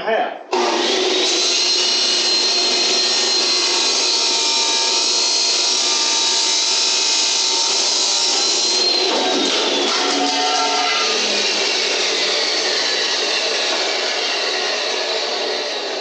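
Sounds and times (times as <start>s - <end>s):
power cutting tool whining: 0.5s - 16.0s.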